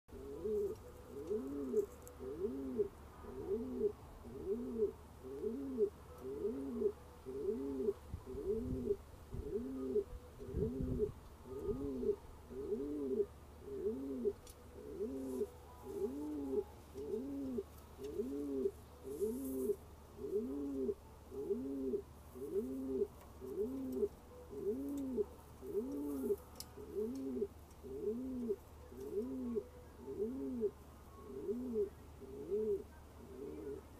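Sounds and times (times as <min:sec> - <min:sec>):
pigeon cooing: 0:00.1 - 0:33.9.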